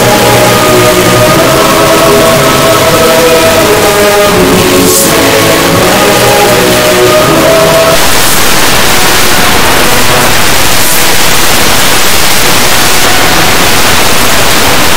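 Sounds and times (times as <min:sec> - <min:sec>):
loud distorted static noise: 0:00.0 - 0:14.9
song music: 0:00.0 - 0:14.9.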